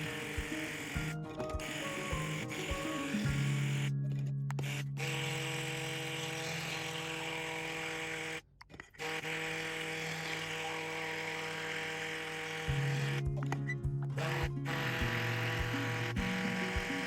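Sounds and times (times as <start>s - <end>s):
small electric motor humming: 0.0s - 3.9s, 4.6s - 8.4s, 9.0s - 13.5s, 14.1s - 17.0s.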